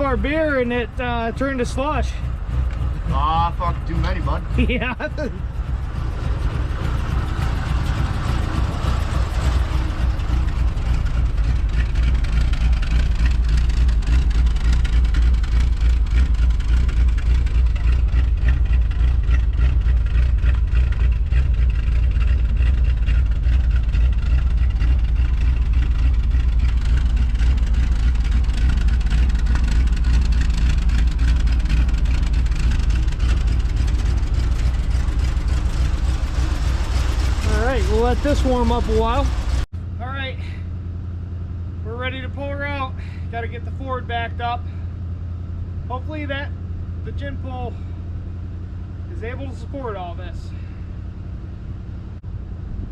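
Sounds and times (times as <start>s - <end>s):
pickup engine idling: 0.0s - 52.9s.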